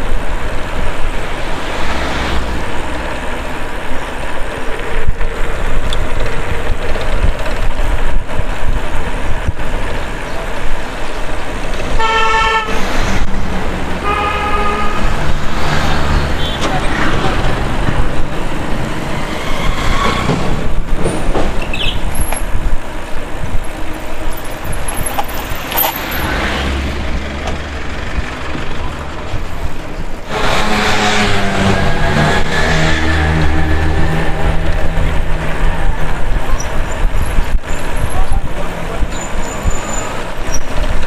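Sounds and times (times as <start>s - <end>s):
bicycle road noise: 0.0s - 41.0s
motor traffic: 0.0s - 41.0s
rushing wind: 0.0s - 41.0s
vehicle engine droning: 0.0s - 41.0s.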